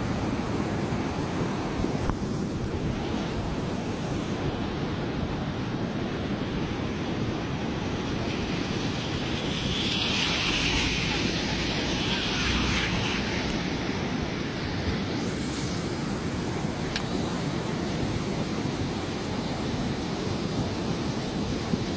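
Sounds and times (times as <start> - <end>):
river water rushing: 0.0 - 21.9
wind buffeting microphone: 0.0 - 21.9.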